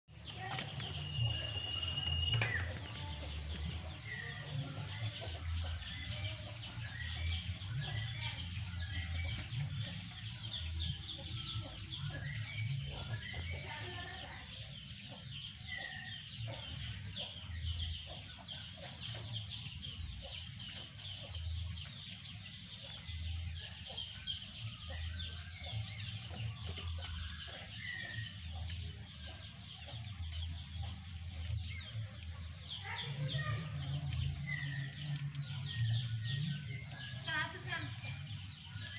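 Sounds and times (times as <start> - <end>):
birds chirping: 0.1 - 38.9
chickens clucking: 0.1 - 38.9.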